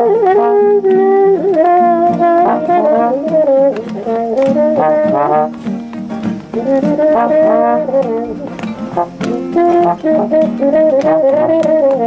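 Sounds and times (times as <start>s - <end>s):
trombones playing: 0.0s - 12.0s.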